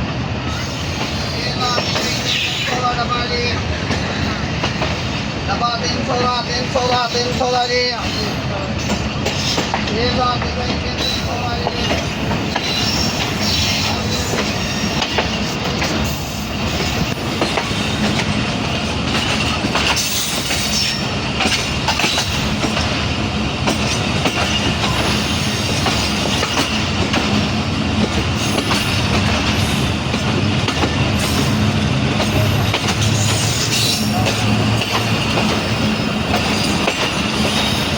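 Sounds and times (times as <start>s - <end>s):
rail joints clicking: 0.0s - 37.9s
train wheels rumbling on track: 0.0s - 37.9s.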